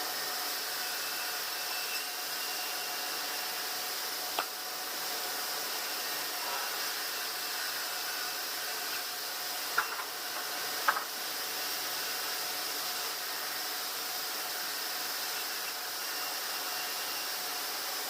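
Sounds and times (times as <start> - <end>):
sawmill machinery hissing: 0.0 - 18.0.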